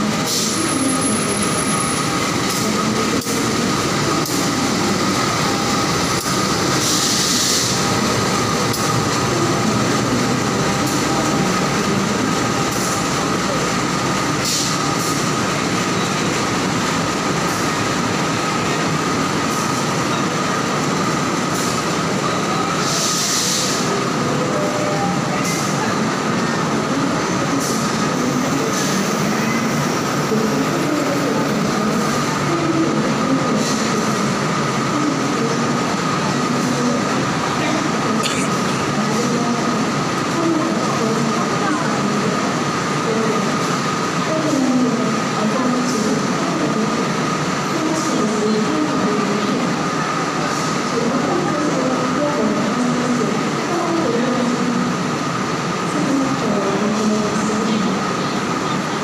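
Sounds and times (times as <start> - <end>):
diesel locomotive rolling: 0.0 - 59.0.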